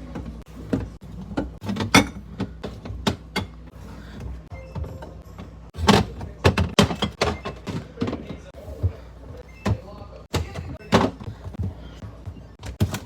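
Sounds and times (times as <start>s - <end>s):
knocks and clacks of containers: 0.0s - 13.0s
low steady fridge hum: 0.0s - 13.0s.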